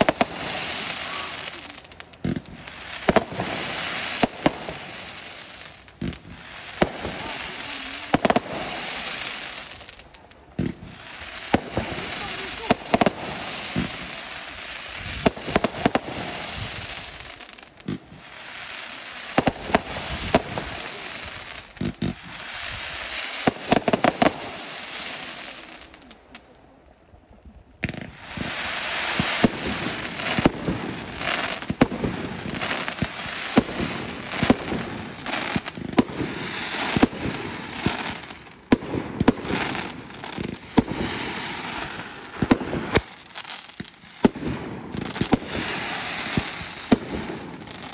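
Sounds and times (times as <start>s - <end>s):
fireworks cracks and bangs: 0.0s - 26.5s, 27.8s - 47.9s
fireworks hissing: 0.0s - 26.5s, 27.8s - 47.9s.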